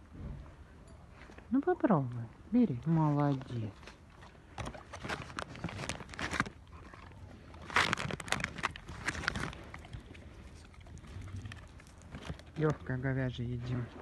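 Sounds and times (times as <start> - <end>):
dog chewing and crunching: 2.8 - 14.0.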